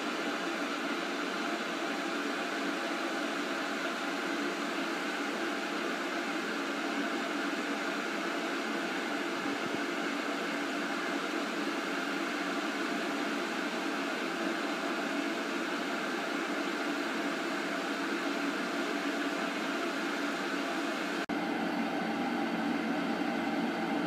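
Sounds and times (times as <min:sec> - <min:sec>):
kettle water boiling hiss: 0:00.0 - 0:24.0.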